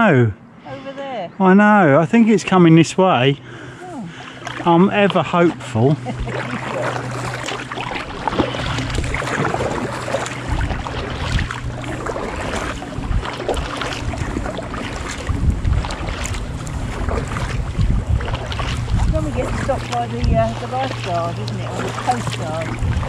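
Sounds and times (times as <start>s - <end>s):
kayak paddles splashing: 3.4s - 23.0s
wind buffeting microphone: 4.4s - 23.0s.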